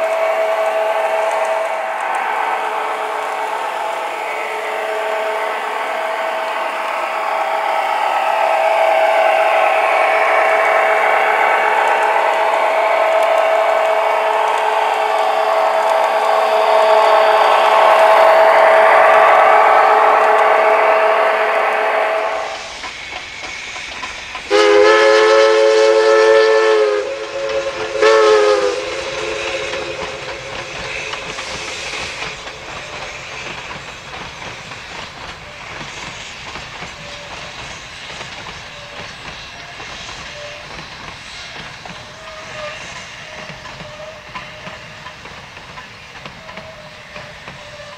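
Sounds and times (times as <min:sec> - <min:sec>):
steam locomotive whistle: 0:00.0 - 0:47.9
train clattering on track: 0:00.0 - 0:47.9.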